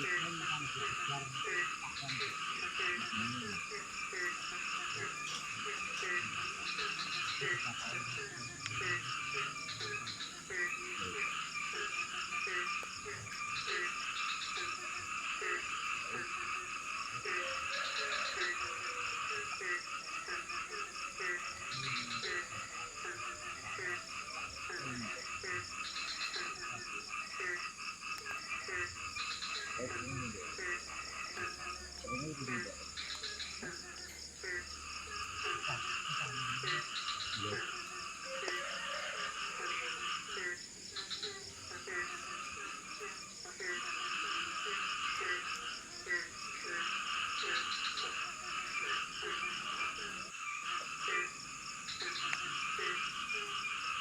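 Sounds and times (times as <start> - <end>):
frogs croaking in chorus: 0.0 - 54.0
high insect buzz: 0.0 - 54.0.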